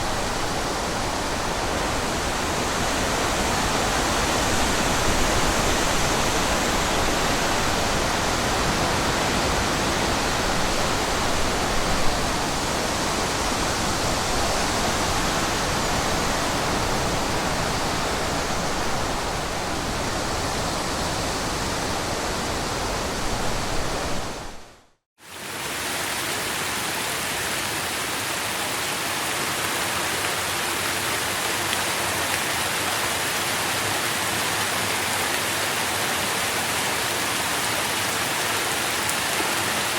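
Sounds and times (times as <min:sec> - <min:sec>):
hissing forest ambience: 0:00.0 - 0:39.9
strong wind rushing through trees: 0:00.0 - 0:39.9.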